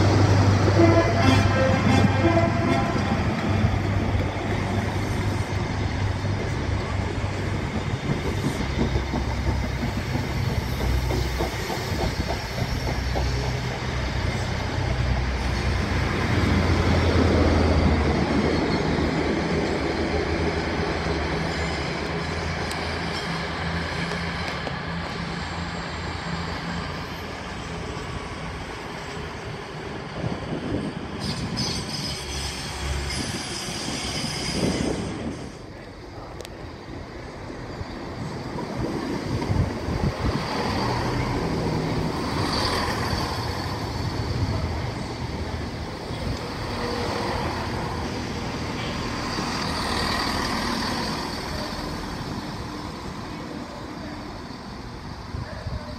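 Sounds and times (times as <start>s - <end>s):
diesel train engines: 0.0s - 55.9s.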